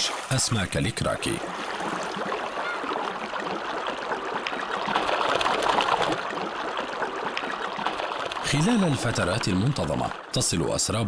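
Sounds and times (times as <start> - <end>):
stream water running over stones: 0.0 - 10.9.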